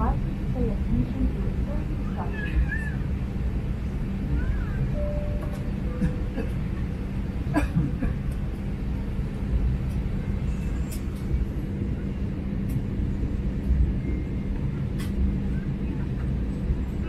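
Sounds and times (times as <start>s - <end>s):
constant hum: 0.0s - 17.0s
ventilation drone: 0.0s - 17.0s.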